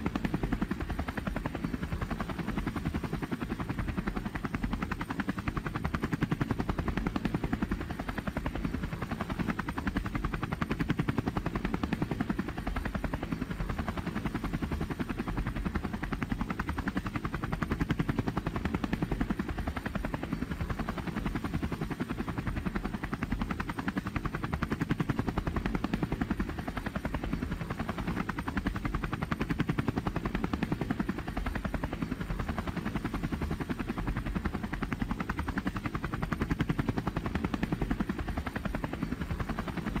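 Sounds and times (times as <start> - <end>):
helicopter rotor chop: 0.0 - 40.0.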